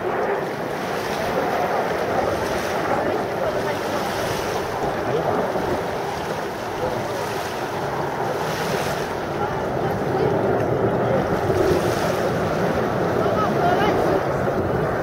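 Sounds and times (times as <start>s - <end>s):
distant jets roaring: 0.0s - 15.0s
wind buffeting microphone: 0.0s - 15.0s.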